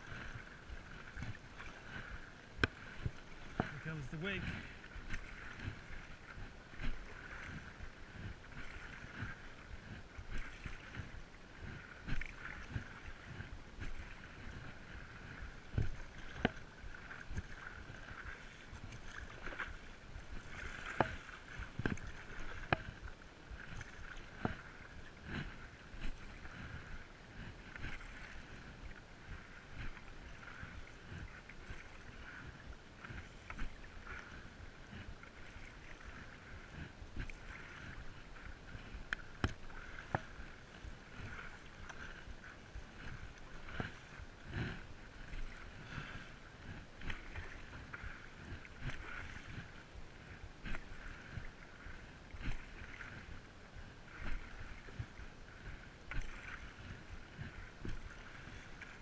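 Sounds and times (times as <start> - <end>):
paddle strokes in water: 0.0 - 59.0
water lapping against board: 0.0 - 59.0.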